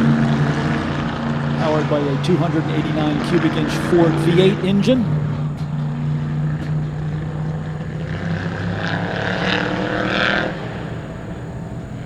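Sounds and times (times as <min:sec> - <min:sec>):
higher engine note: 0:00.0 - 0:12.0
low engine drone: 0:00.0 - 0:12.0.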